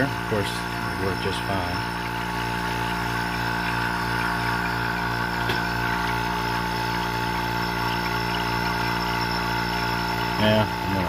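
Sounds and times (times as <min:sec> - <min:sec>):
electric vacuum pump running: 0:00.0 - 0:11.0.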